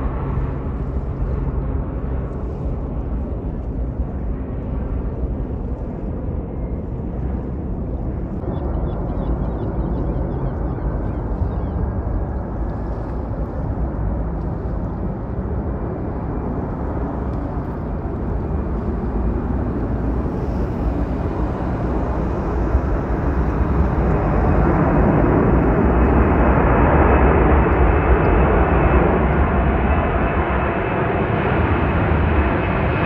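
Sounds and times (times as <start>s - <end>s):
airliner engine rushing: 0.0s - 33.0s.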